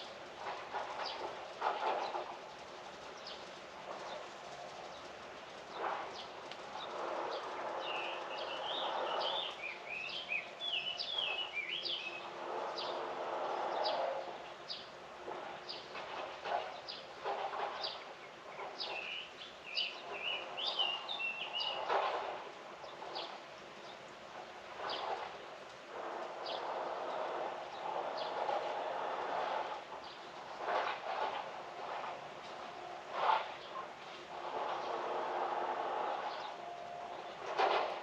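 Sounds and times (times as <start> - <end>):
rustling noise: 0.0 - 38.0.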